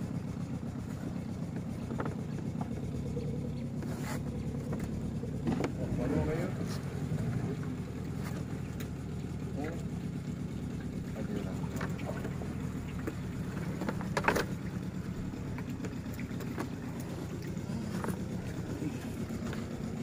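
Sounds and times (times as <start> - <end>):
steady low rumble: 0.0 - 20.0
small water splashes: 0.8 - 20.0.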